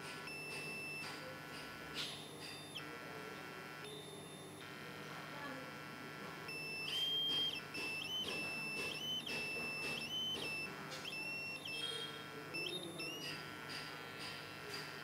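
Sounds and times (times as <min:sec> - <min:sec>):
electronic buzzer tone: 0:00.0 - 0:15.0.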